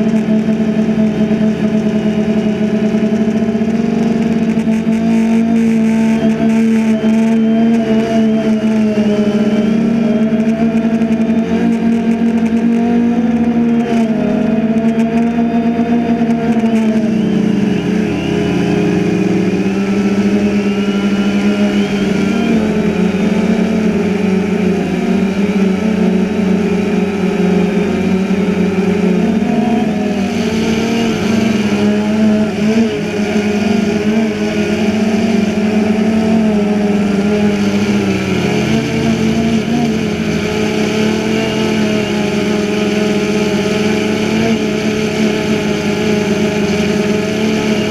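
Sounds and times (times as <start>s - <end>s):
drone propellers whirring: 0.0s - 47.9s.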